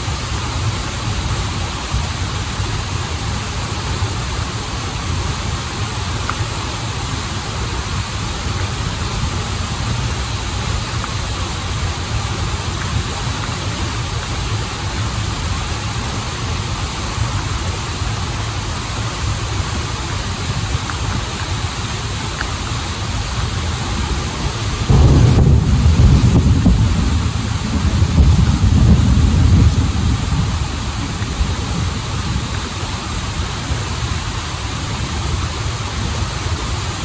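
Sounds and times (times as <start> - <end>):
waterfall and stream rushing: 0.0 - 37.0.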